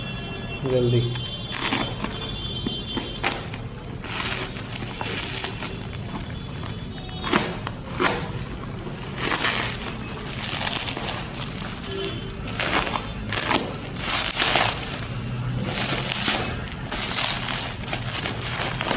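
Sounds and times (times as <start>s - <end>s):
bubble wrap rustling: 0.0s - 18.9s
plastic mailer crinkling and tearing: 0.0s - 18.9s.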